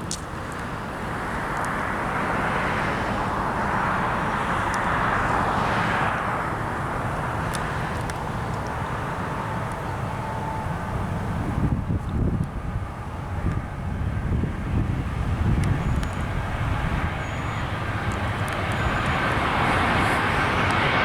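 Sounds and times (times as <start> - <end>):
jet airliner passing: 0.0 - 21.0.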